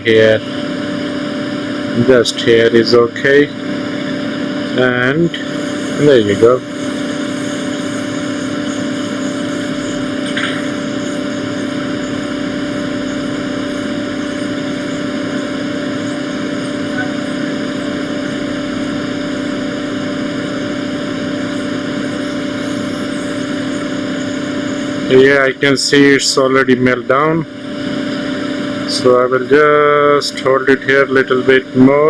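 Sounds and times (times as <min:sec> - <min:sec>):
hot air station blowing: 0:00.0 - 0:32.0.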